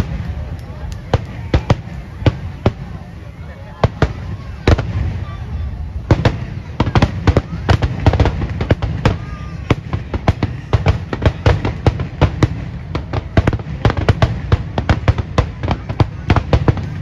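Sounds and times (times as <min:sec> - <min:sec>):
fireworks bursting with sharp bangs: 0:00.0 - 0:17.0.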